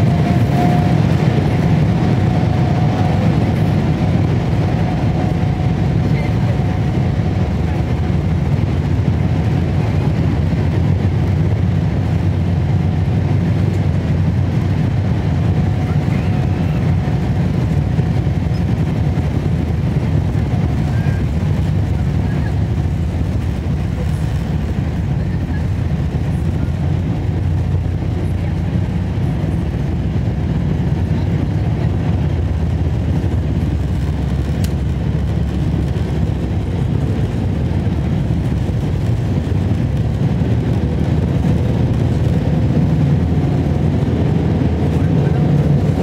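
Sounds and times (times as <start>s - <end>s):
airliner cabin rumble: 0.0s - 46.0s.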